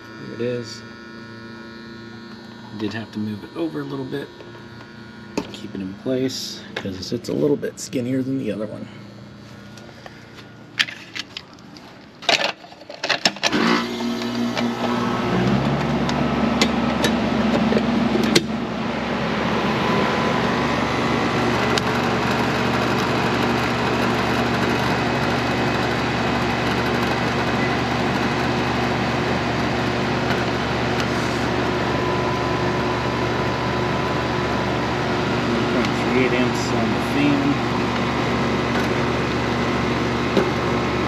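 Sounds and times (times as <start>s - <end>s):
condenser fan rushing air: 0.0s - 11.7s, 13.4s - 41.0s
compressor humming: 0.0s - 41.0s.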